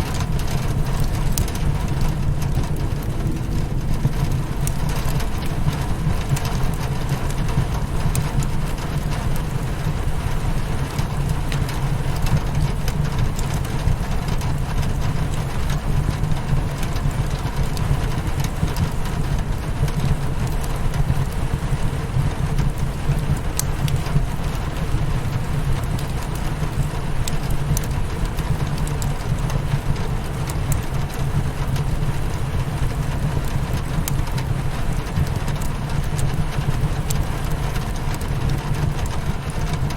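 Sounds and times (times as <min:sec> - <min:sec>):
rain hitting a windowpane: 0:00.0 - 0:39.9
wood fire crackling: 0:00.0 - 0:39.9.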